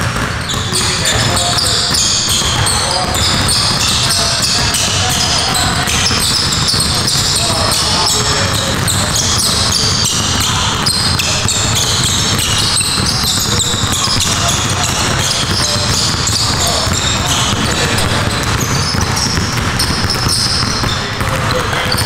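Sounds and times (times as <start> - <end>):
basketballs bouncing on gym floor: 0.0 - 22.0.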